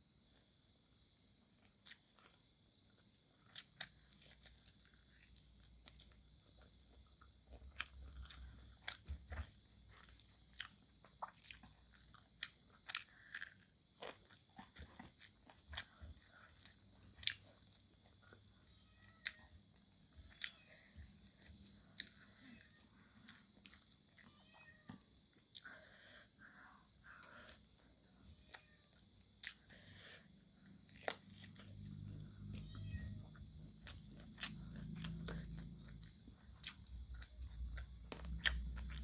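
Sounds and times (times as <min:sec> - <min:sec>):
chewing and crunching food: 0:00.0 - 0:39.0
crickets chirring: 0:00.0 - 0:39.0.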